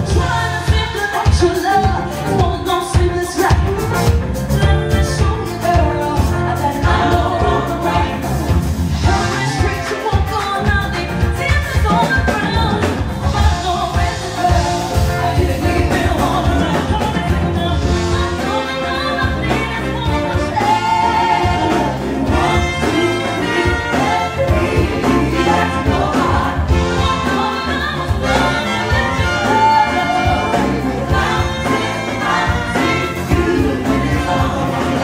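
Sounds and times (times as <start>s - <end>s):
live band playing: 0.0s - 35.0s.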